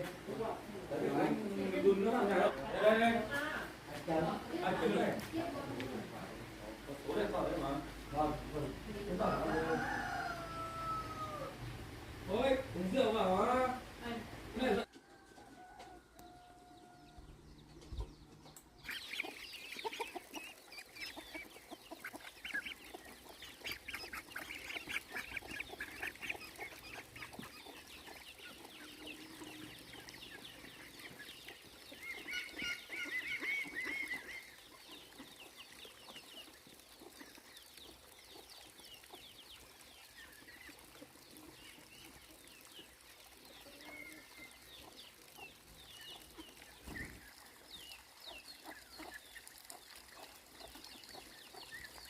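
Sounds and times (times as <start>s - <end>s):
chickens clucking: 0.0s - 52.0s.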